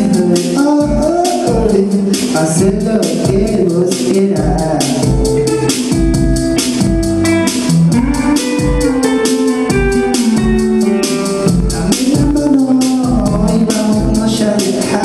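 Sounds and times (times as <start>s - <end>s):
drum kit beat with cymbals: 0.0s - 15.0s
electric guitar: 0.0s - 15.0s.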